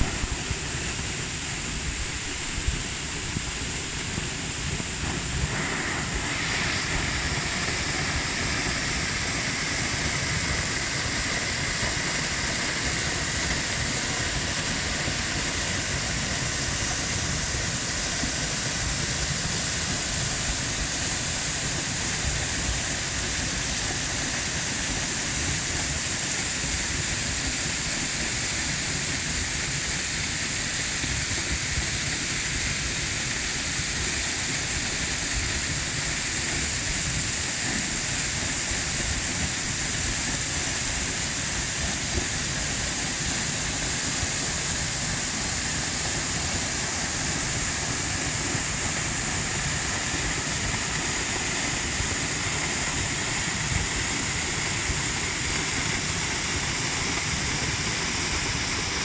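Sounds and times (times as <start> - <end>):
waterfall splashing into pool: 0.0 - 59.0.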